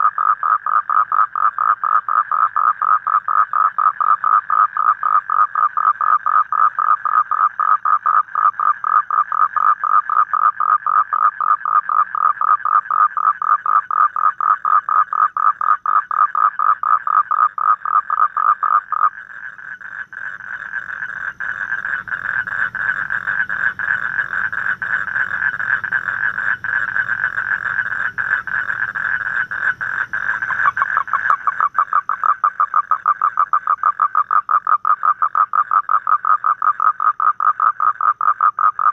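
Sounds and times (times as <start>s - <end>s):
toad trilling croaks: 0.0s - 38.9s.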